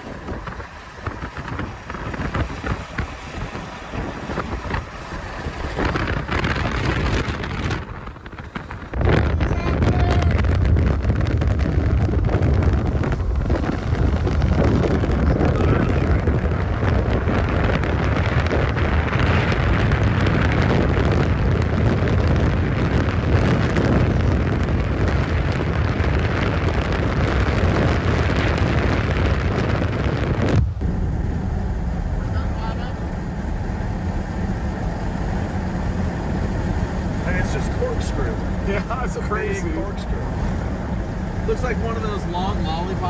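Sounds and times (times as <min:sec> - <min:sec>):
strong wind buffeting microphone: 0:00.0 - 0:43.0.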